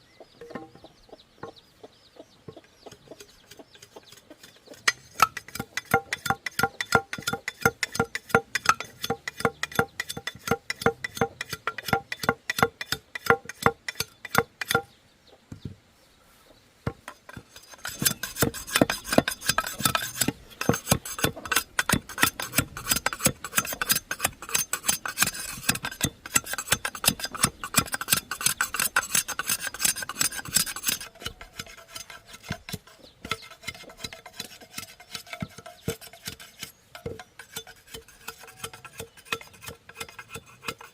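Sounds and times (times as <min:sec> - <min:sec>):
hand tool rasping on bamboo: 0:02.9 - 0:14.9, 0:16.9 - 0:40.9.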